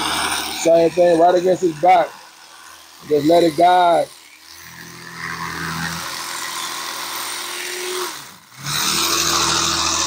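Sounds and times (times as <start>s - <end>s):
electric knife motor humming: 0.0s - 10.0s.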